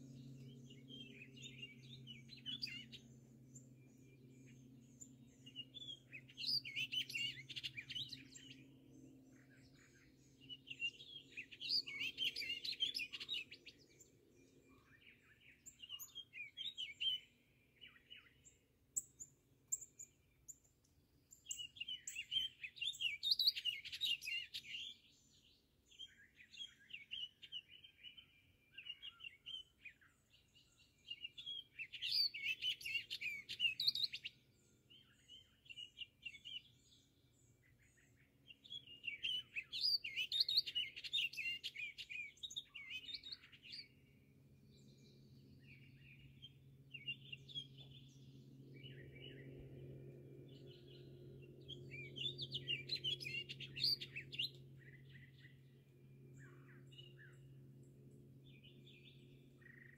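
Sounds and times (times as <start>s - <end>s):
rapid warbling birdsong: 0.0s - 59.9s
songbirds singing: 0.0s - 59.9s.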